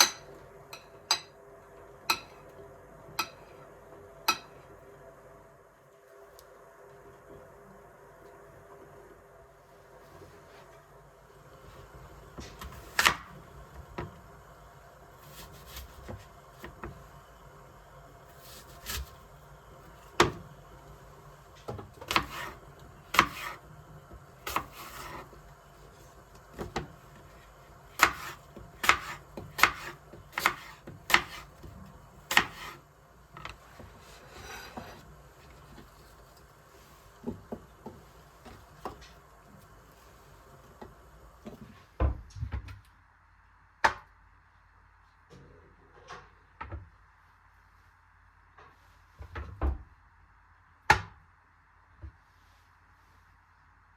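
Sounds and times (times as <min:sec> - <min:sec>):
faint room hum: 0:00.0 - 0:53.9.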